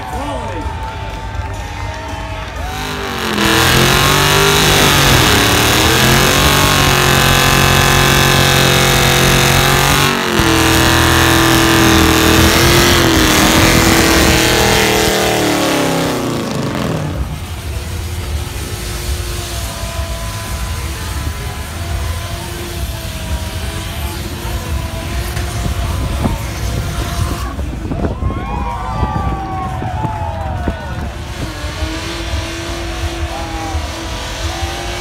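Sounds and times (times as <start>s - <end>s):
car engine revving: 0.0s - 28.0s, 30.8s - 35.0s.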